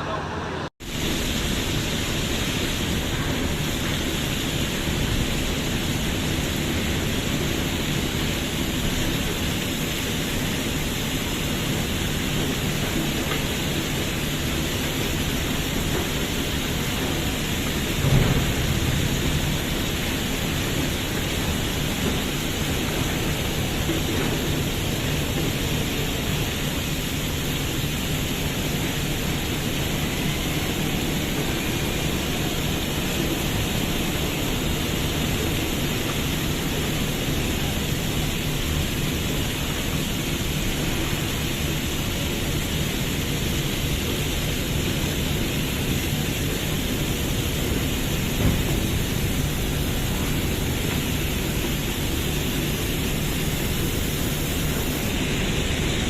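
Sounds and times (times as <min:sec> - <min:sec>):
large engine running: 0:01.2 - 0:56.0.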